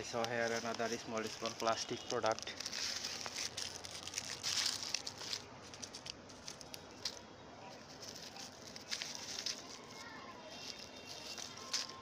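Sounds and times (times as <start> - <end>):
plastic wrappers and leaves rustling: 0.0 - 12.0
small crackles: 0.0 - 12.0.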